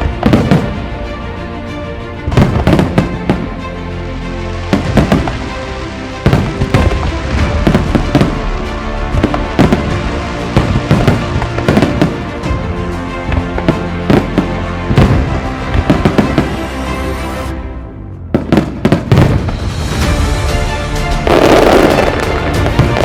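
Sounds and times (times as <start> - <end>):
fireworks bangs and crackles: 0.0 - 0.9, 2.3 - 3.6, 4.6 - 17.4, 18.3 - 23.0
music: 0.0 - 23.0.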